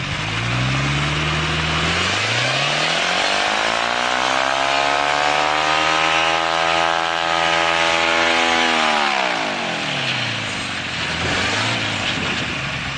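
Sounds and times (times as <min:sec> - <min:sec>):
small engine revving then idling: 0:00.0 - 0:12.9.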